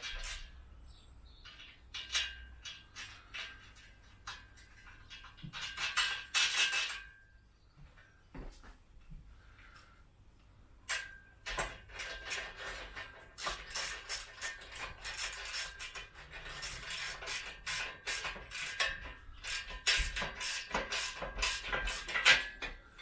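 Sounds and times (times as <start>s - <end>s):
ratchet clicking and metal clinking: 0.0s - 0.6s, 1.3s - 7.3s, 10.8s - 23.0s.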